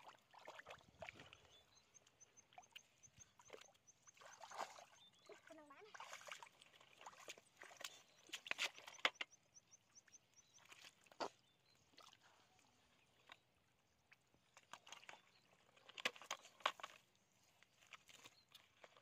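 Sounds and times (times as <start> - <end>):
wet mud squelching: 0.0 - 19.0.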